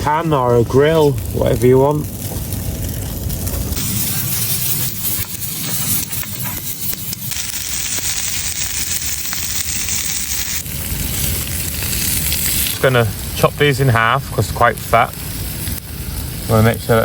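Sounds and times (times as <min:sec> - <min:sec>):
sausages sizzling in a pan: 0:00.0 - 0:17.0.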